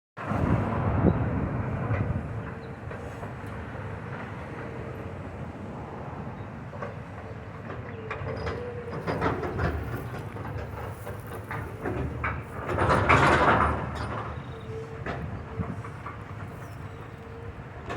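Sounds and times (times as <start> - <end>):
demolition machinery rumbling: 0.2 - 17.9.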